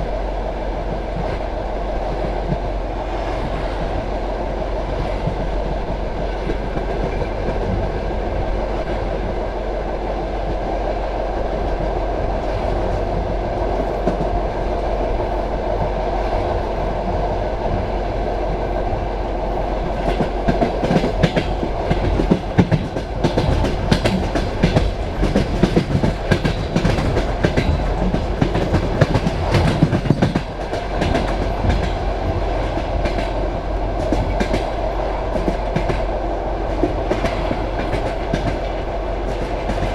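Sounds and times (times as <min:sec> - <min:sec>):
train carriage rumbling on rails: 0:00.0 - 0:39.9.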